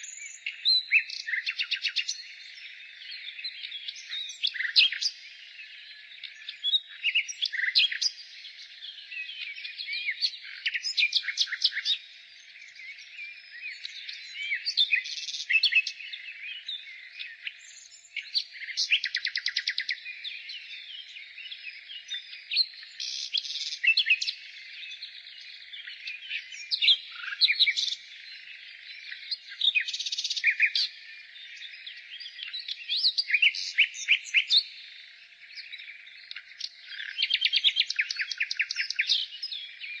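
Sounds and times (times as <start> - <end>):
birds twittering: 0.0 - 40.0
nightingale singing: 0.0 - 40.0.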